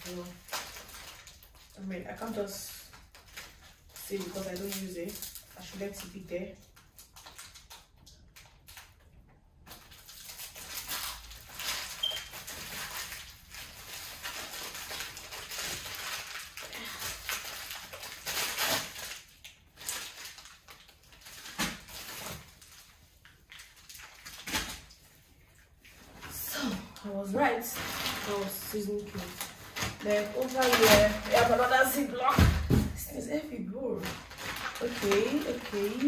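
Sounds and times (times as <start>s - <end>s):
plastic packaging crinkling: 0.0s - 36.0s.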